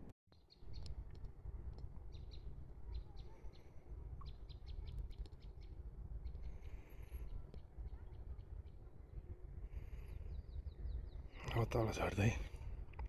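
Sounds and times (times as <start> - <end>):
small birds chirping: 0.4 - 12.7.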